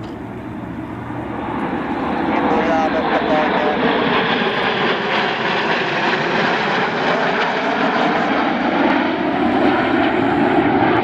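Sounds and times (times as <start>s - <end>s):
jet aircraft flying overhead: 0.0s - 11.0s.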